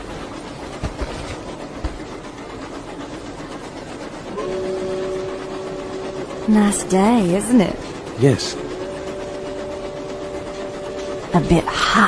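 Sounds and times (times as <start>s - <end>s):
train carriage rolling noise: 0.0s - 12.0s.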